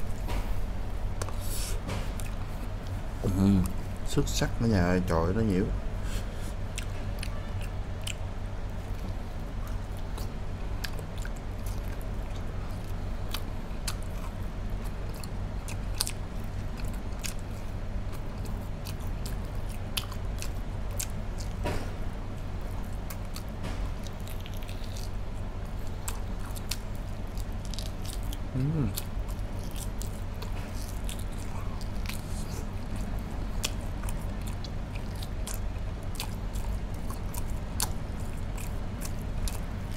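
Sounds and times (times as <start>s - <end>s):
person chewing food: 0.0s - 4.0s, 6.0s - 39.9s
steady low hum: 0.0s - 39.9s.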